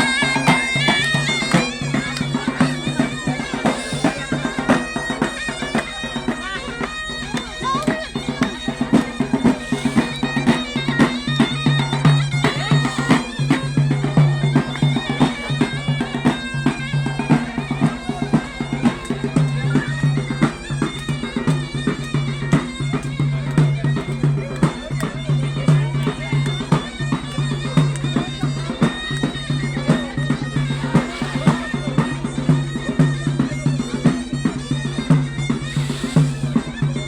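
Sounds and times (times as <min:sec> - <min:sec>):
drum beats: 0:00.0 - 0:37.0
reedy wind instrument melody: 0:00.0 - 0:37.0.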